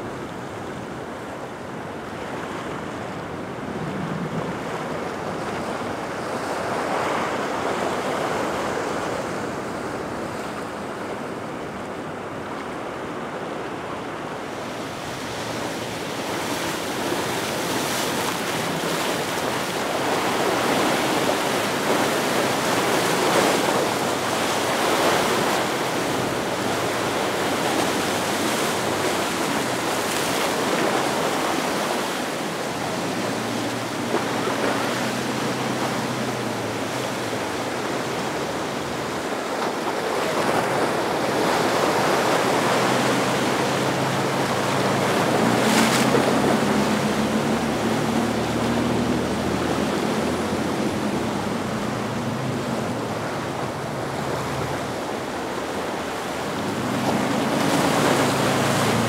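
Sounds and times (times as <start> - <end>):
boat engine hum: 0.0 - 59.0
rough surf breaking: 0.0 - 59.0.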